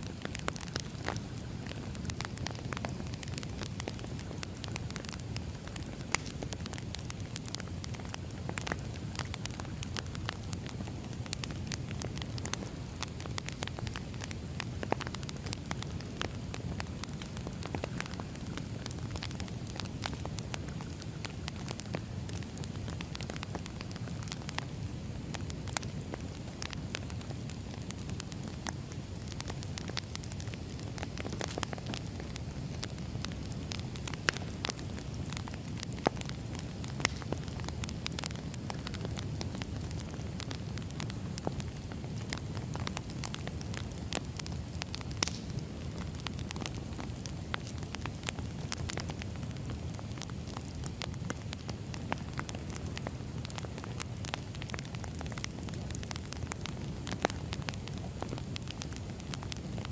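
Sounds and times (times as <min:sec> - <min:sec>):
firewood crackling and popping: 0:00.0 - 0:59.9
low rush of flame: 0:00.0 - 0:59.9.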